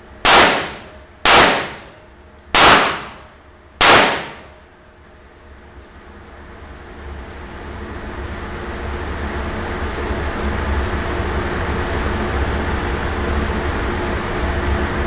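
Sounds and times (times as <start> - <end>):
ventilation machinery humming: 0.0 - 15.0.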